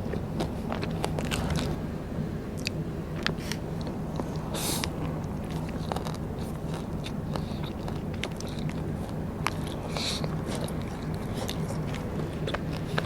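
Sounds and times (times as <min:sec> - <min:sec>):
chewing crisp snacks: 0:00.0 - 0:01.8, 0:03.4 - 0:13.0
mouth clicks: 0:02.6 - 0:13.0.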